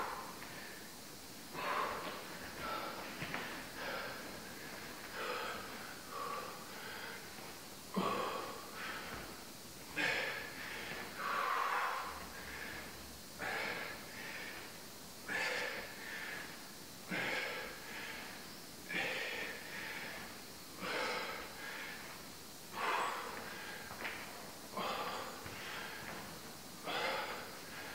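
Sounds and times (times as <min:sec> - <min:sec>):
man breathing hard: 0:00.0 - 0:27.9.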